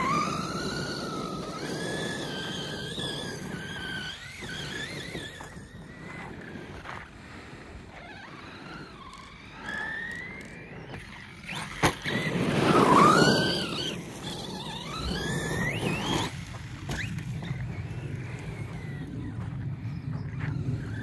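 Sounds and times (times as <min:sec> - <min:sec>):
rc truck electric motor whining: 0:00.0 - 0:21.0.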